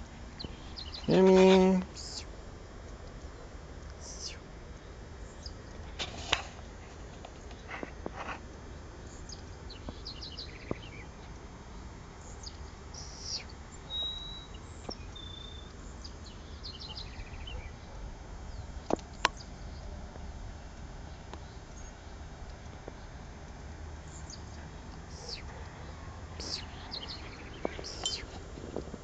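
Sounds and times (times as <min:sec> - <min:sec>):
birds chirping: 0:00.0 - 0:23.4, 0:24.0 - 0:29.0.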